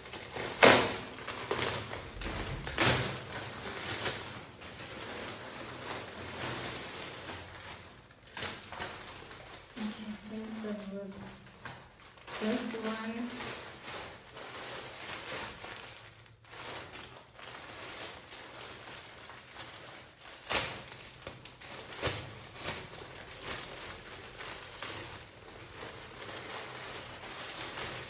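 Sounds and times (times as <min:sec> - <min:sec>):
packaging and clothing rustling: 0:00.0 - 0:28.0.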